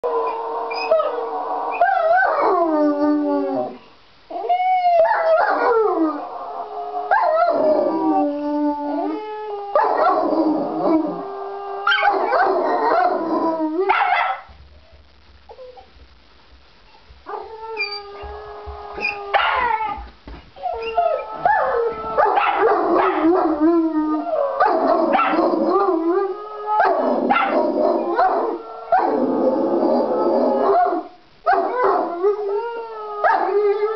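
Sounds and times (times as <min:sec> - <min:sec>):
dogs howling: 0:00.0 - 0:14.4, 0:17.3 - 0:33.9.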